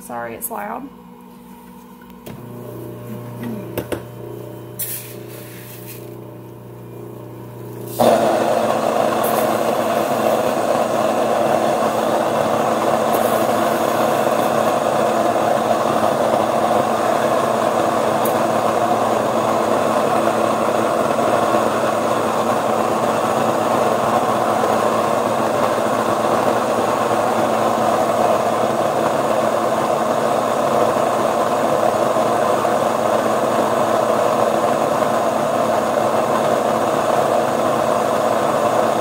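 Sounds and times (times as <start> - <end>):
stand mixer humming: 1.1 - 39.0
grain mill grinding: 2.2 - 39.0.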